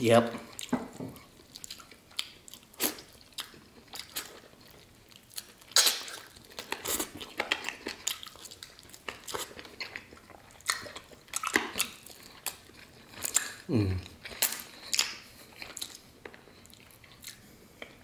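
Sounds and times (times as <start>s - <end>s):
person biting and chewing chicken: 1.4s - 18.0s.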